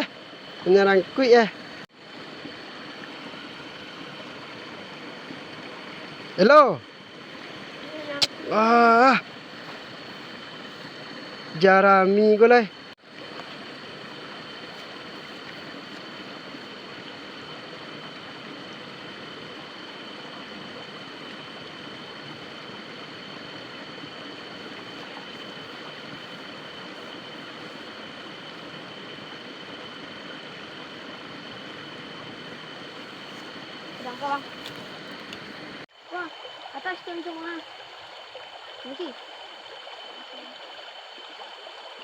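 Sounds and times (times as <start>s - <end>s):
flowing water: 0.0s - 42.0s.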